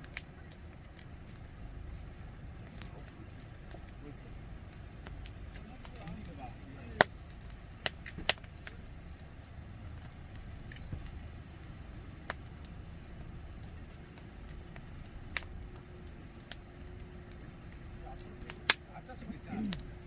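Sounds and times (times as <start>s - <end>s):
campfire burning: 0.0s - 20.0s
wood popping and cracking: 0.0s - 20.0s.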